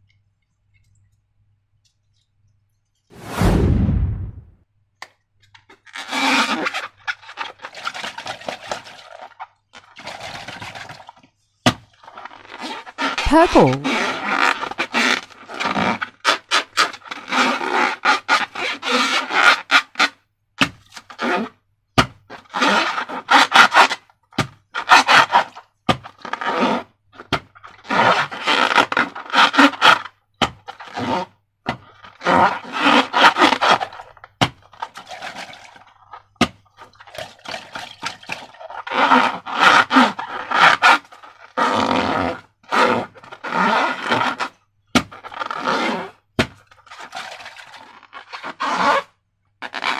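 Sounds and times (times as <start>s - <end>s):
hands squeezing balloons and slime: 5.7s - 49.9s.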